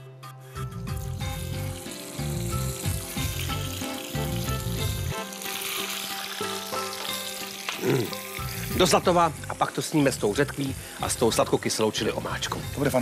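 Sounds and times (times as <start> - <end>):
background music: 0.0 - 13.0
oil sizzling: 0.6 - 13.0.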